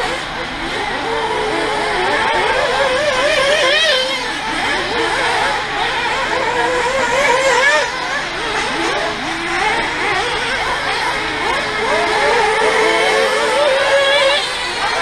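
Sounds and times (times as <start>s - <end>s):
model racing car motors: 0.0s - 15.0s.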